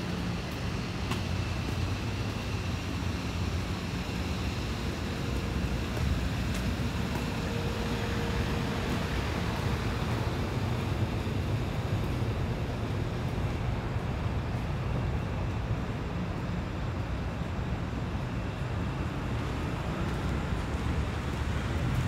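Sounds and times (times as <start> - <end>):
distant traffic rumble: 0.0 - 22.0.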